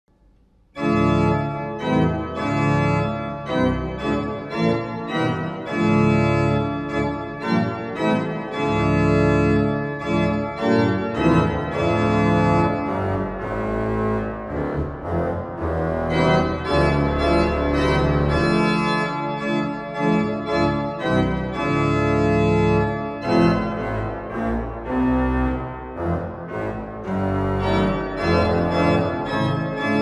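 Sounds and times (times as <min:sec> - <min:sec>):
pipe organ playing sustained chords: 0:00.7 - 0:30.0.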